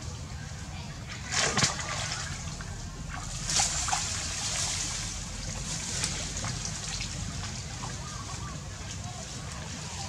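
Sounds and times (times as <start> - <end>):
water splashing and trickling: 1.0 - 10.0.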